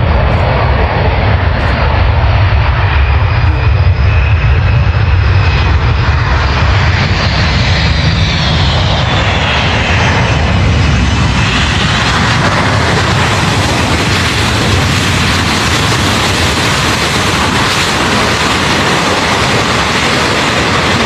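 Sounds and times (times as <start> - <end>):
high engine whine: 0.0 - 21.0
jet aircraft passing: 0.0 - 21.0.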